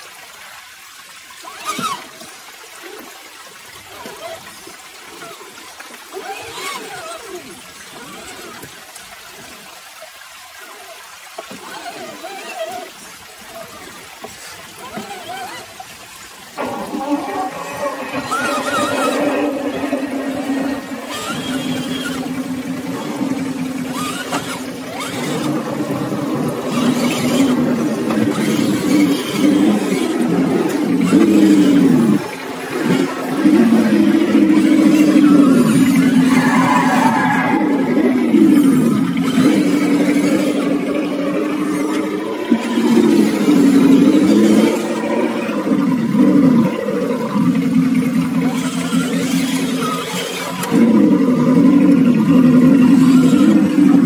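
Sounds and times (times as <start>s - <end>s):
creek water trickling: 0.0s - 54.0s
rc truck motor whining: 1.4s - 3.1s, 3.8s - 9.7s, 10.6s - 54.0s.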